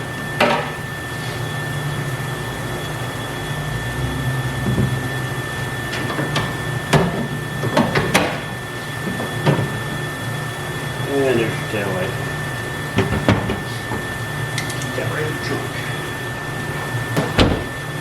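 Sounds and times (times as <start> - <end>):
machine hum with high whine: 0.0 - 18.0.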